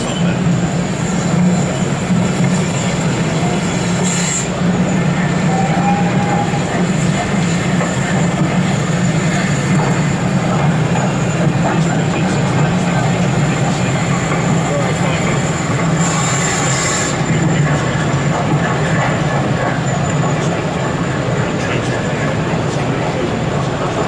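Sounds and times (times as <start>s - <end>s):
model train humming: 0.0s - 24.0s.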